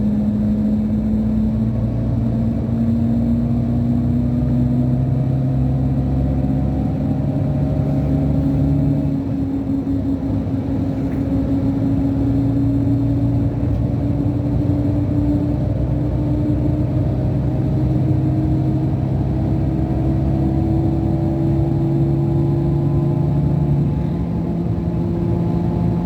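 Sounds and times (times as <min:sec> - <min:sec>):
diesel coach engine pulling: 0:00.0 - 0:26.0.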